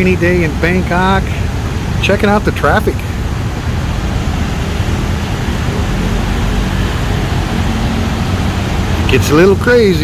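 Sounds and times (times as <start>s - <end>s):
tyres on wet road: 0.0s - 10.0s
vehicle engines: 0.0s - 10.0s.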